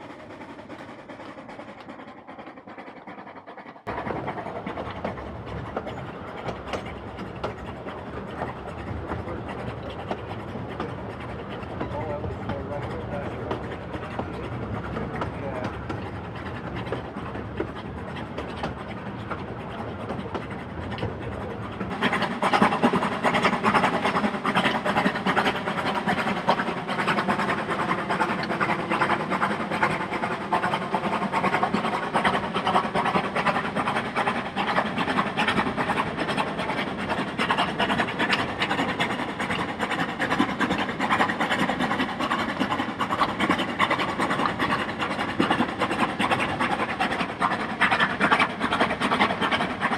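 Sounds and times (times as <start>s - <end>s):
steam locomotive running: 0.0s - 49.9s.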